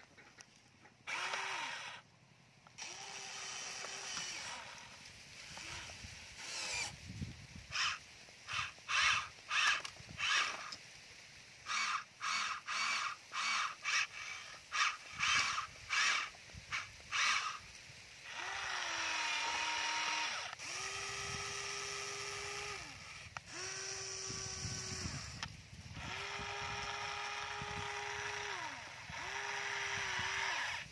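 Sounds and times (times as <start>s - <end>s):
toy excavator motors whining: 0.0s - 10.9s, 11.6s - 30.9s.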